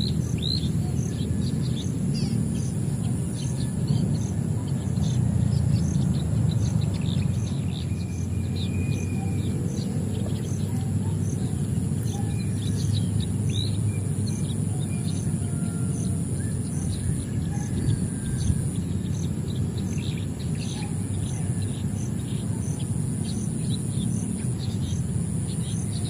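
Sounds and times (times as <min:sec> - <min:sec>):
pulsing high-pitched whine: 0:00.0 - 0:26.0
small birds chirping: 0:00.0 - 0:26.0.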